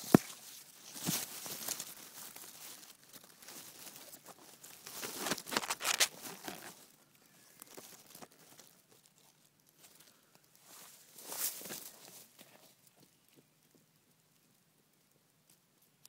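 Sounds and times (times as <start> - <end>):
grass rustling against microphone: 0.0 - 13.4.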